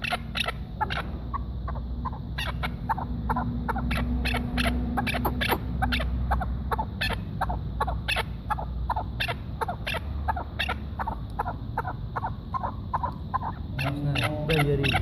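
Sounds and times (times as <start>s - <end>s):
partridge clucking calls: 0.0s - 15.0s.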